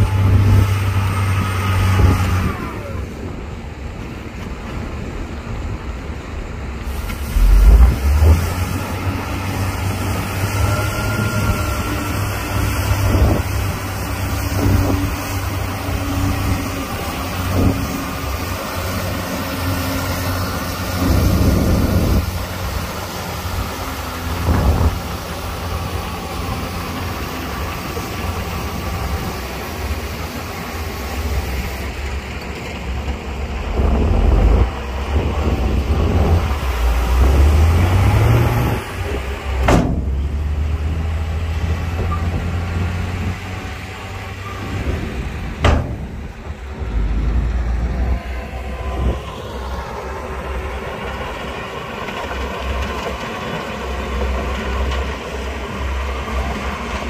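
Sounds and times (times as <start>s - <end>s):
engine revving: 0.0s - 3.3s, 6.9s - 32.1s, 32.8s - 57.0s
heavy machinery diesel engines: 0.0s - 57.0s.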